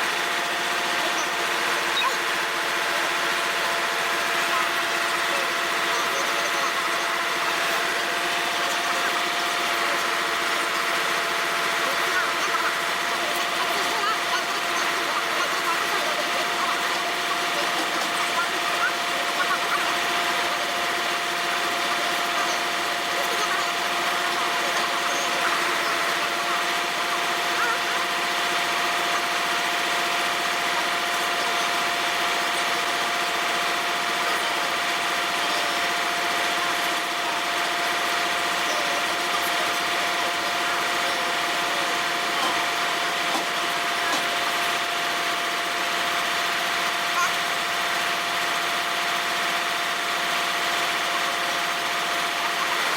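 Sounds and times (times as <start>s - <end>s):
constant whine: 0.0s - 52.9s
heavy machine engine running: 0.0s - 52.9s.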